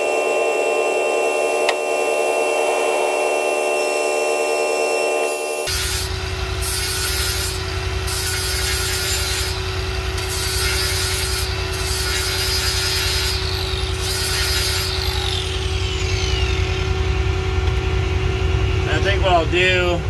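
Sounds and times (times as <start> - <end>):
steady low hum: 0.0 - 20.0
angle grinder grinding metal: 0.9 - 17.1.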